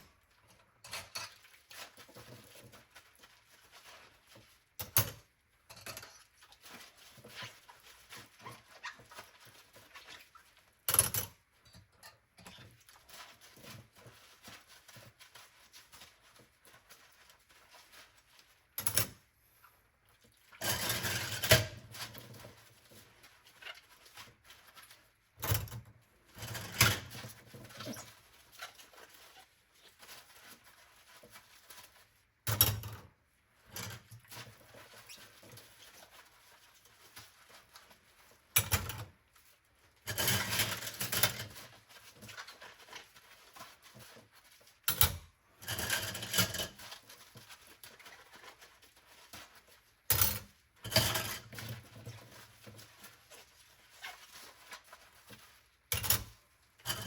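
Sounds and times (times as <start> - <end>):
dish washing noise: 0.0 - 57.0.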